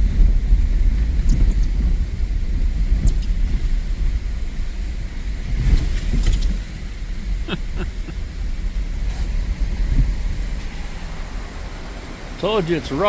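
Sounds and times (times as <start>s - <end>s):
pickup truck rumbling: 0.0s - 13.0s.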